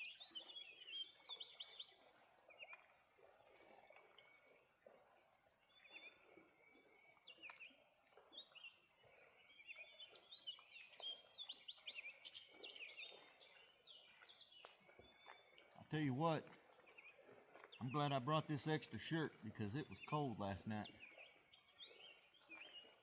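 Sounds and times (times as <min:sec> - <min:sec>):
songbirds chirping and singing: 0:00.0 - 0:03.0, 0:04.3 - 0:23.0.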